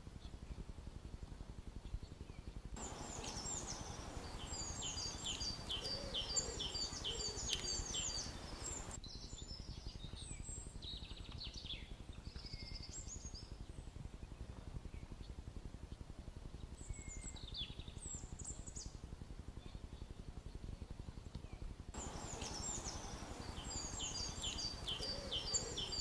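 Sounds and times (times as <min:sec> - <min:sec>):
small birds chirping: 0:01.7 - 0:26.0.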